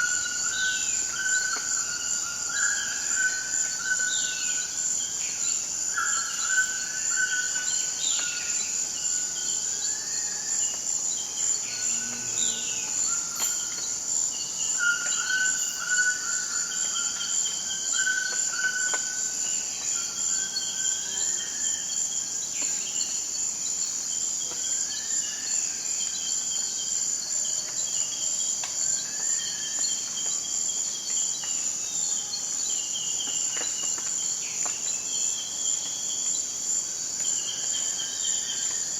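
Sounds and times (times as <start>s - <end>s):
high-pitched insect trill: 0.0s - 38.9s.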